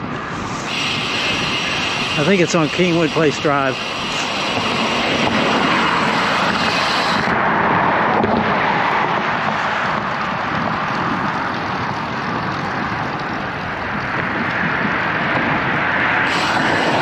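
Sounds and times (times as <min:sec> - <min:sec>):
car traffic: 0:00.0 - 0:17.0
road noise: 0:00.0 - 0:17.0
rushing wind: 0:00.0 - 0:17.0.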